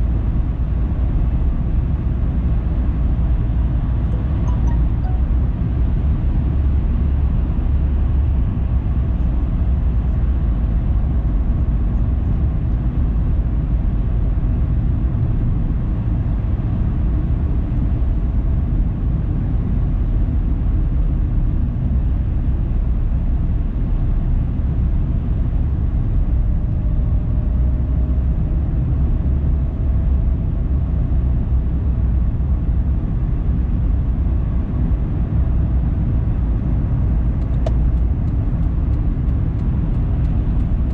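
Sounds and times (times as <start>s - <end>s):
car engine hum: 0.0s - 40.9s
car tyre and road noise: 0.0s - 40.9s.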